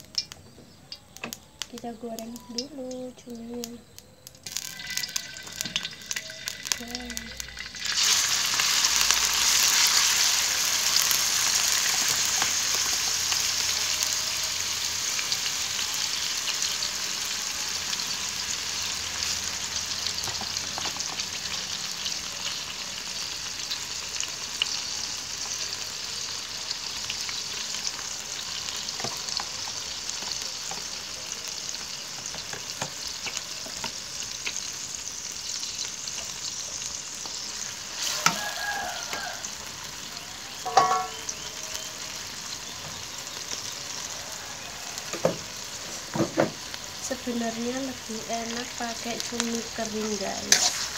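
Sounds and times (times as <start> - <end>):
squid sizzling in hot oil: 1.6 - 50.9.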